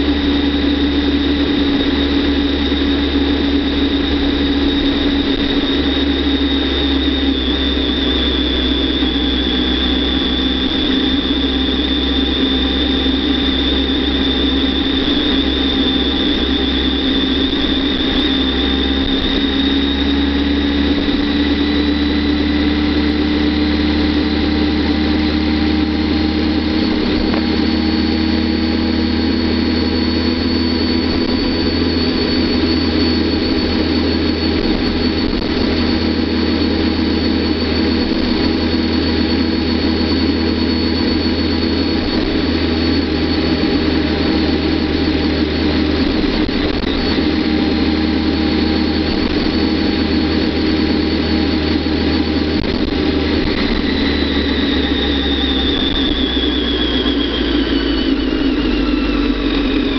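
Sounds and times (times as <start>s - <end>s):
motorcycle engine running: 0.0s - 56.5s
thin high whine: 0.0s - 59.9s.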